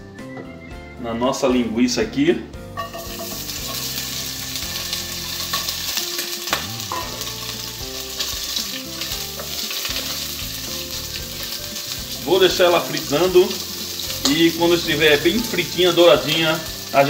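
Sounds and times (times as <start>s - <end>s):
sausage sizzling in oil: 2.8s - 17.0s.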